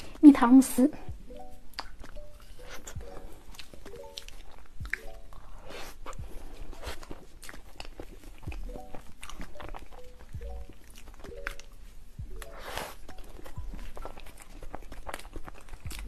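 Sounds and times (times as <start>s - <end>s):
wet mouth smacks and chewing: 1.4s - 16.0s.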